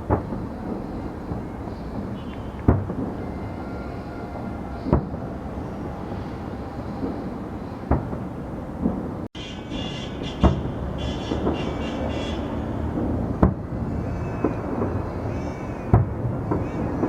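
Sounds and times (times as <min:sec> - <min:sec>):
distant fireworks rumble: 0:00.0 - 0:17.0
loud firework bangs: 0:00.0 - 0:17.0.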